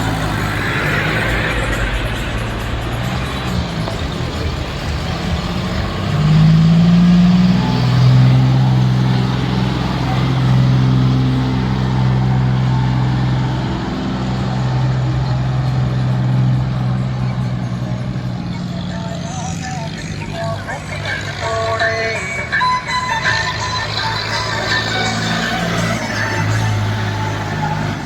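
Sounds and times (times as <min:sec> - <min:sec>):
diesel tractor engine revving: 0:00.0 - 0:28.0.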